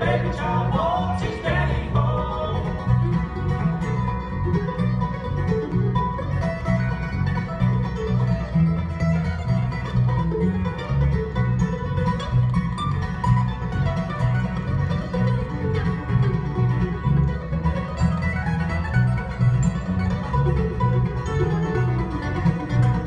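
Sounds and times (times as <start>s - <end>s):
banjo picking: 0.0s - 23.0s
mandolin picking: 0.0s - 23.0s
rhythmic bass line: 0.0s - 23.0s
strummed acoustic guitars: 0.0s - 23.0s.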